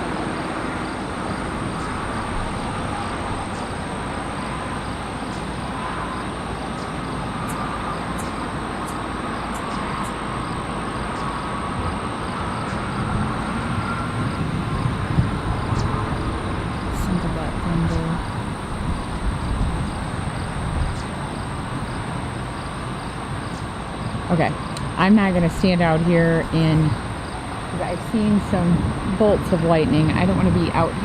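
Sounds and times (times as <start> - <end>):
distant rolling thunder: 0.0 - 31.0
wind: 0.0 - 31.0.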